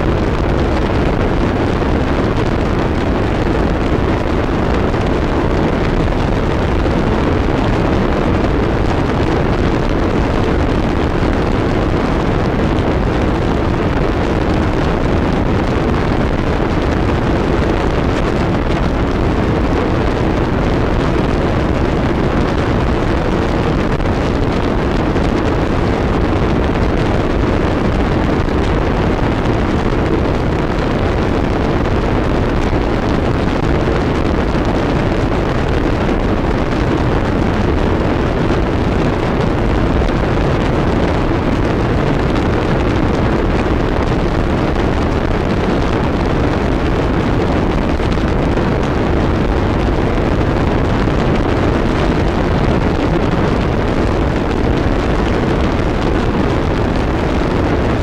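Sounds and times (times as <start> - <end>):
dense electronic noise: 0.0 - 58.0.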